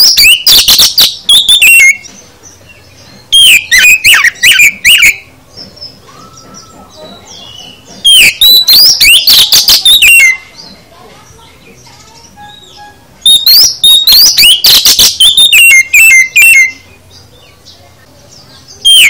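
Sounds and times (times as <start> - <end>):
bird whistling song: 0.0 - 17.7, 18.4 - 19.0.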